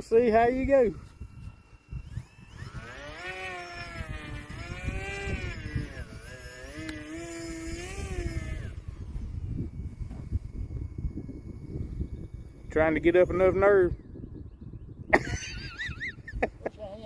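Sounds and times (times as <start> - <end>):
model plane motor whining: 0.0 - 17.0
wind buffeting microphone: 0.0 - 17.0.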